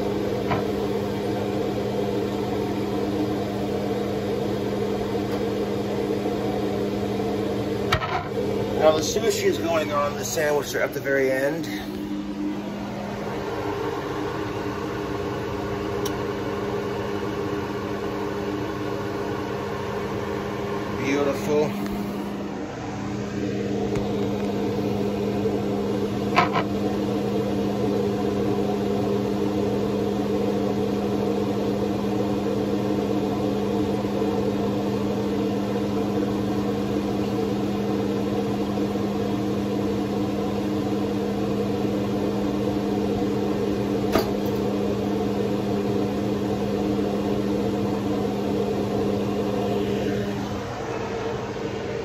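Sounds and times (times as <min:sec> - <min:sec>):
appliance motor humming: 0:00.0 - 0:52.0.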